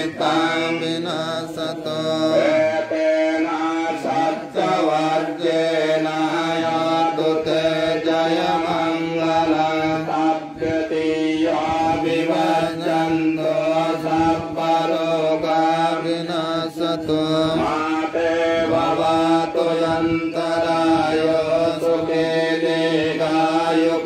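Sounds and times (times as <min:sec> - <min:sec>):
monks chanting through microphone: 0:00.0 - 0:24.0.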